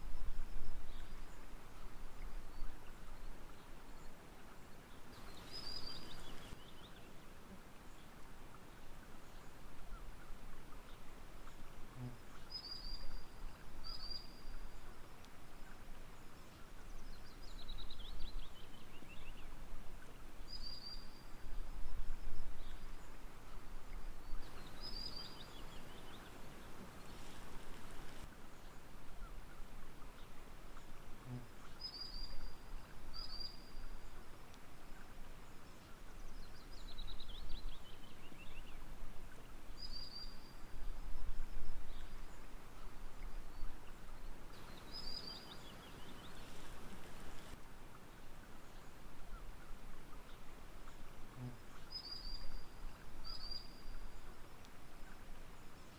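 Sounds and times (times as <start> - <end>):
gentle running water: 0.0 - 55.9.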